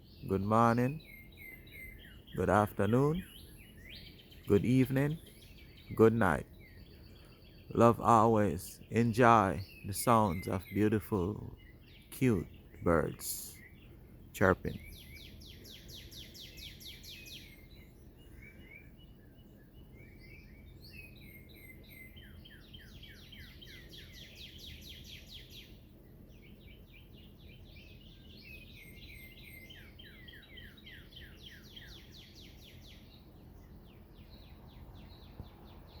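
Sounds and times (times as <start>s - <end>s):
faint steady background noise: 0.0s - 36.0s
songbirds trilling: 0.0s - 36.0s.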